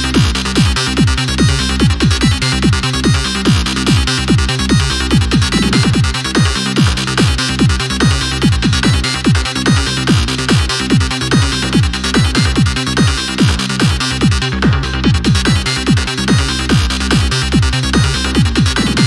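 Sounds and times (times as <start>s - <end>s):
four-on-the-floor kick drum: 0.0s - 19.0s
synth lead: 0.0s - 19.0s.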